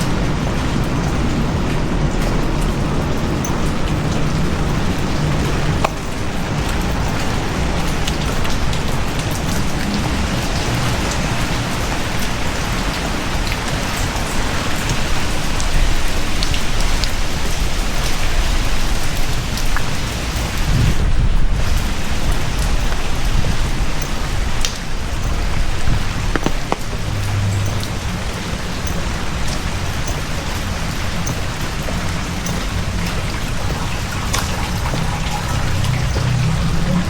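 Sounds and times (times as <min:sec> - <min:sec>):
heavy rain pouring: 0:00.0 - 0:37.0
raindrops ticking close by: 0:00.0 - 0:37.0.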